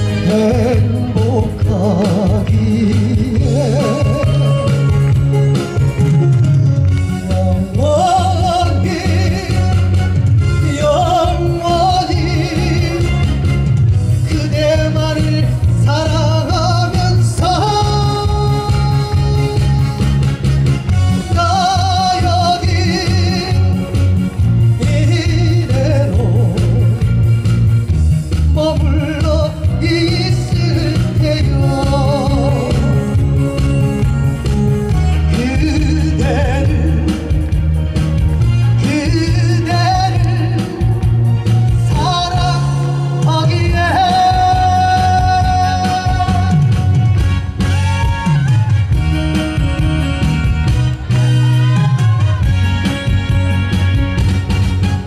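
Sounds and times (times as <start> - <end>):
man singing with vibrato: 0.0 - 51.6
instrumental accompaniment with bass beat: 0.0 - 55.0
recorded band over speakers: 0.0 - 55.0.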